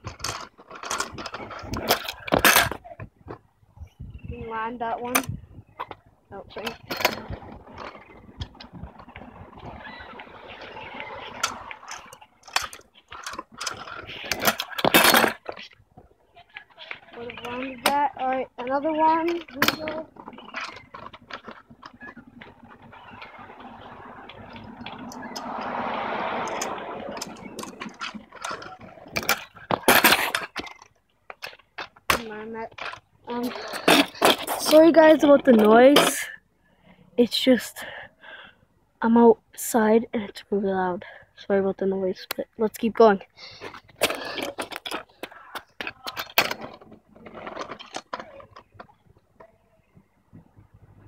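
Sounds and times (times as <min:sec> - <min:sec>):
scooter clattering on pavement: 0:00.0 - 0:03.5, 0:04.4 - 0:36.4, 0:39.0 - 0:51.0
scooter wheels rolling on asphalt: 0:00.0 - 0:51.0.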